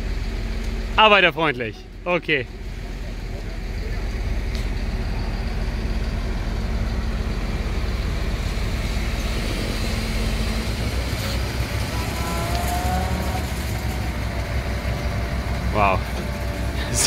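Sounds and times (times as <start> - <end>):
heavy diesel engines rumbling: 0.0 - 17.0.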